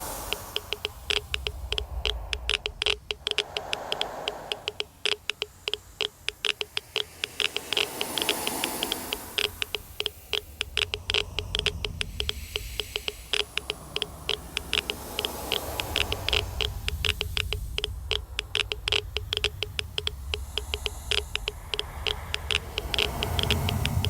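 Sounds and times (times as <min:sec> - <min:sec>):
geiger counter clicking: 0:00.0 - 0:24.0
hiss: 0:00.0 - 0:24.0.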